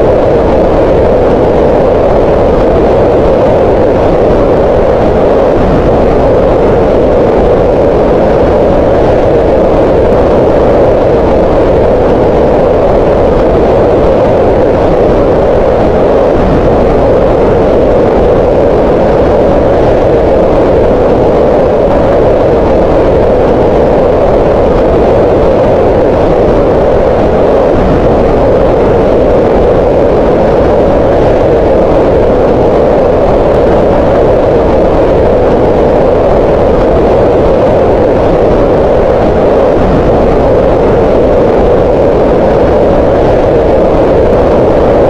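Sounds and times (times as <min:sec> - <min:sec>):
steady synthetic noise: 0:00.0 - 0:45.0.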